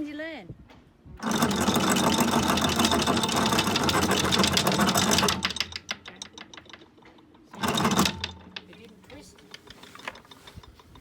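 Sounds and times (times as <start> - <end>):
anchor windlass motor running: 1.0 - 11.0
chain clanks: 1.2 - 11.0
chain rattling: 1.2 - 11.0.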